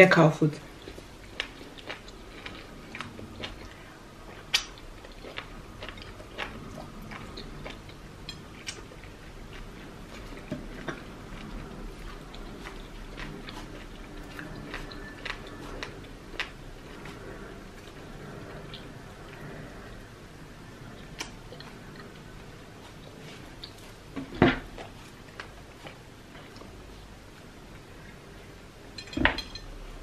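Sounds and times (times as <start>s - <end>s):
chewing: 0.7s - 20.1s, 20.8s - 24.1s, 24.7s - 27.0s.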